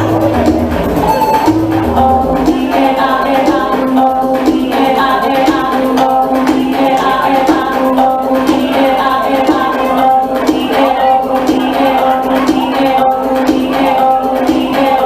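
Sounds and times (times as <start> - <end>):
music with sung notes and beat: 0.0 - 15.0.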